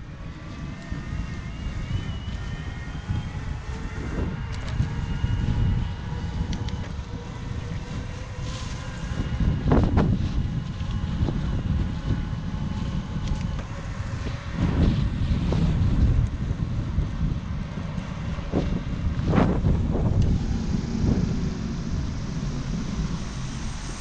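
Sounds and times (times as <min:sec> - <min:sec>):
faint steady whine: 0:00.0 - 0:24.0
wind buffeting microphone: 0:00.0 - 0:24.0.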